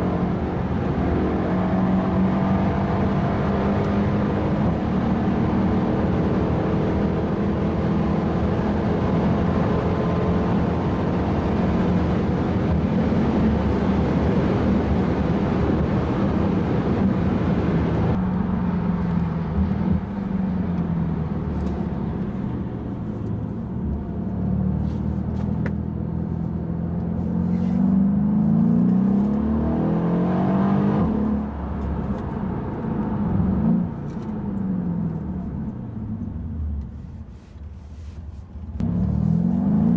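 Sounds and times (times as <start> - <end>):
car engine through gear changes: 0.0 - 39.9
road and wind noise: 0.0 - 39.9.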